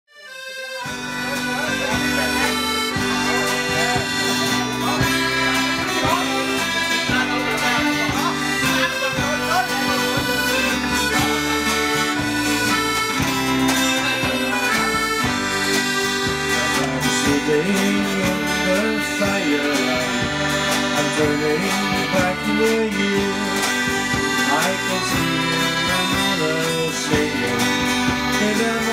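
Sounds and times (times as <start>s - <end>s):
accordion: 0.1s - 28.9s
acoustic guitar: 0.2s - 28.9s
drums with steady beat: 0.8s - 28.9s
electric bass: 0.8s - 28.9s.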